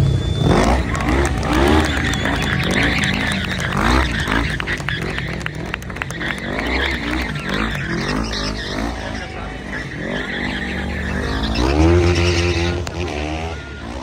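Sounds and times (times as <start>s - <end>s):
quad bike engines revving: 0.0s - 14.0s
tyres skidding on asphalt: 0.1s - 14.0s.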